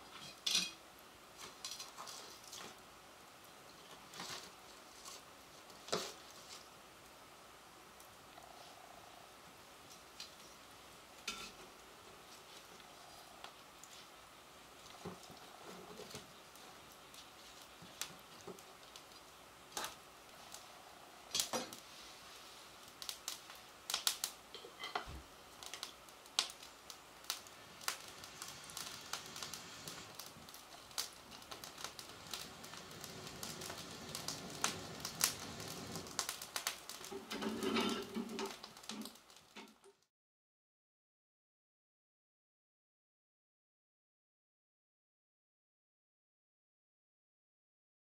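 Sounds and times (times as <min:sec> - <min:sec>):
firewood crackling and popping: 0:00.0 - 0:40.1.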